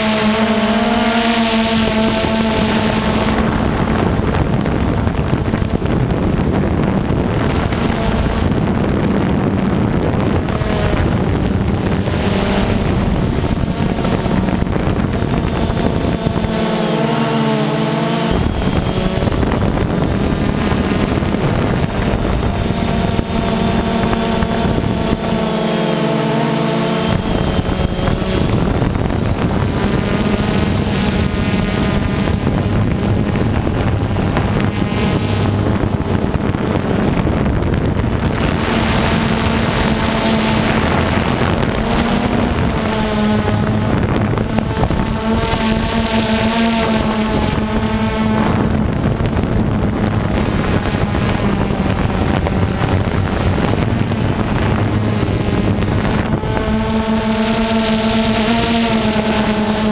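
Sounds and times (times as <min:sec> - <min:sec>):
drone propellers buzzing: 0:00.0 - 0:59.9
wind on microphone: 0:00.0 - 0:59.9.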